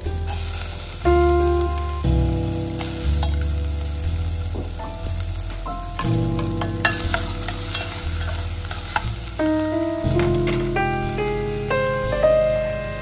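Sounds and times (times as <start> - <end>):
background music with held notes: 0.0 - 13.0
ginger sizzling in hot oil: 0.0 - 13.0.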